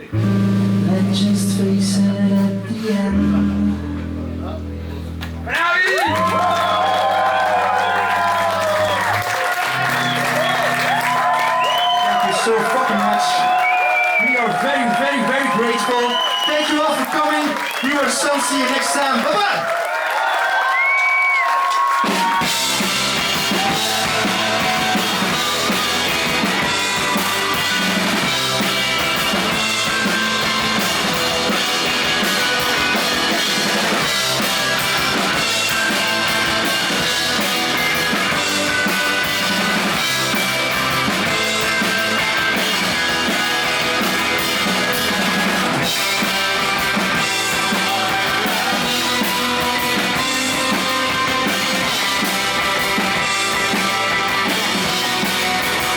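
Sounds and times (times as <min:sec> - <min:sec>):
loud rock music: 0:00.0 - 0:14.4, 0:22.0 - 0:55.9.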